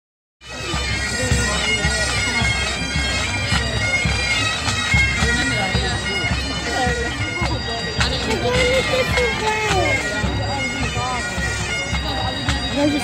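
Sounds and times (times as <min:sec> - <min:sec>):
bagpipes playing: 0:00.4 - 0:13.0
drums beating: 0:00.4 - 0:13.0.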